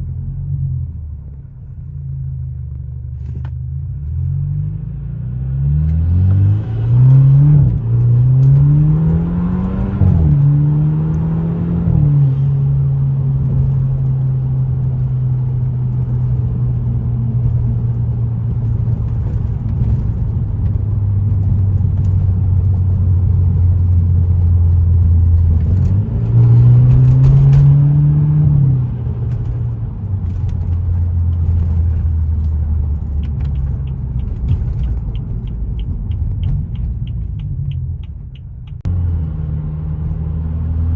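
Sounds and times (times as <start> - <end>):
car engine accelerating: 2.3 - 40.9.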